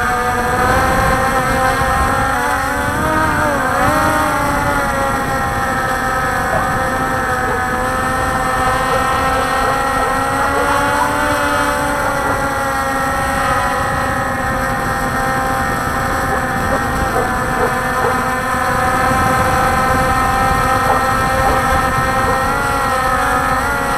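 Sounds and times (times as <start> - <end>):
drone motors whining: 0.0 - 23.9
low wind noise: 0.0 - 23.9.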